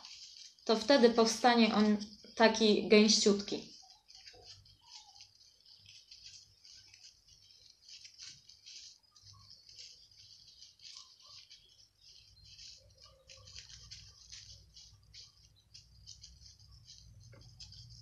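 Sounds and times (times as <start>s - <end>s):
paper towel crinkling: 0.0s - 18.0s.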